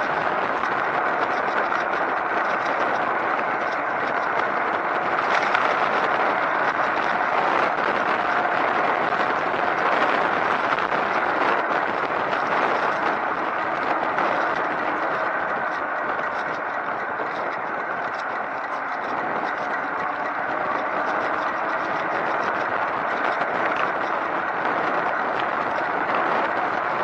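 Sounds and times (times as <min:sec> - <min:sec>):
bicycle tyres and drivetrain whirring: 0:00.0 - 0:27.0.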